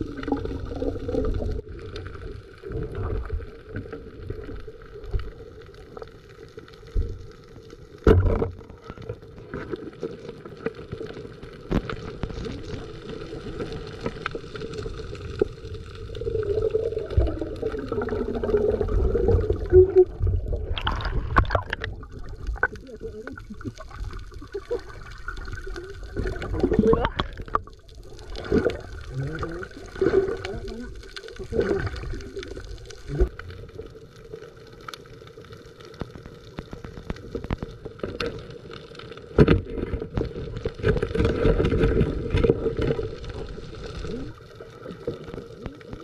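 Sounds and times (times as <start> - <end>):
muffled underwater water movement: 0.0 - 46.0.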